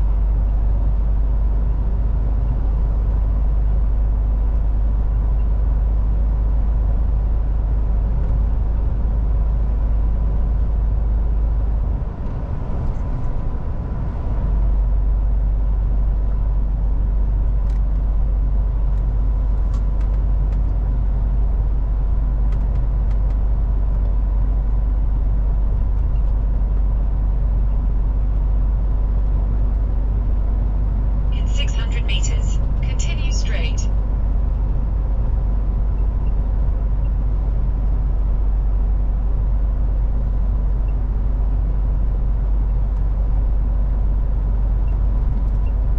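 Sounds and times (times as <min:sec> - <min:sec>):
truck engine and road rumble: 0:00.0 - 0:45.9.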